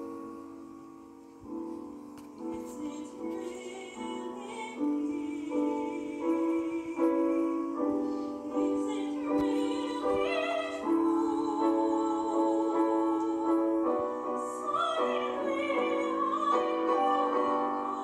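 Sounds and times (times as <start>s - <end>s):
grand piano: 0.0s - 18.0s
soprano singing: 0.0s - 18.0s.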